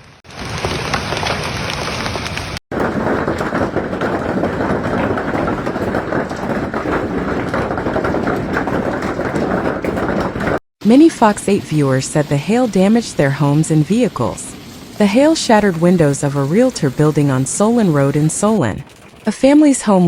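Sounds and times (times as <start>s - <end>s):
rain and hail pelting: 0.0s - 20.0s.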